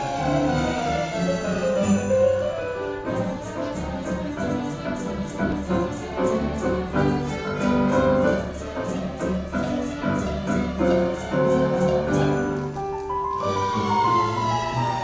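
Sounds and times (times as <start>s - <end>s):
sleigh bells jingling: 0.0s - 13.0s
symphony orchestra strings: 0.0s - 15.0s.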